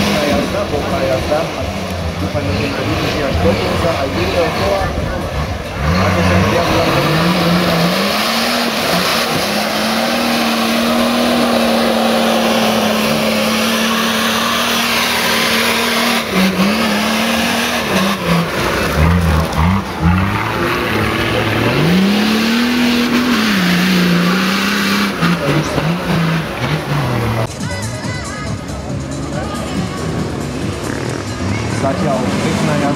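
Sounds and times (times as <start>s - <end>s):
engine revving under load: 0.0s - 27.5s, 30.0s - 32.9s.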